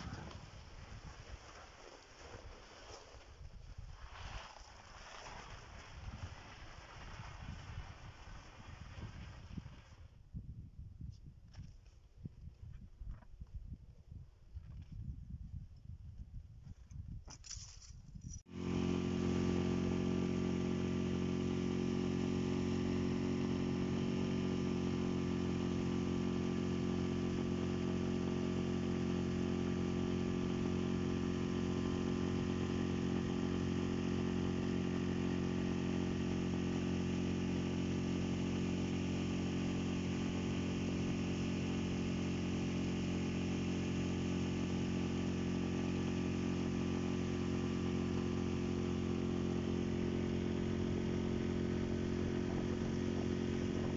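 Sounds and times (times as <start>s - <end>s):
outboard motor running: 0.0s - 9.7s, 18.5s - 53.9s.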